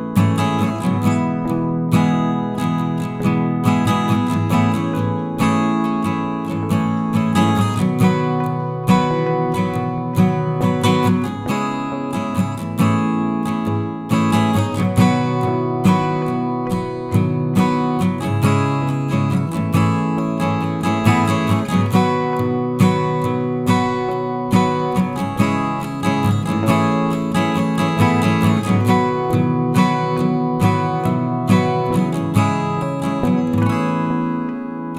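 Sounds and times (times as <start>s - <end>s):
acoustic guitar strumming: 0.0s - 34.9s.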